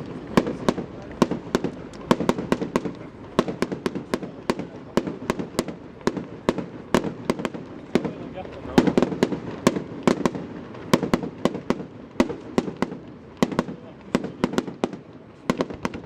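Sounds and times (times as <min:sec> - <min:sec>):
continuous rumble: 0:00.0 - 0:16.0
fireworks bursting: 0:00.0 - 0:16.0.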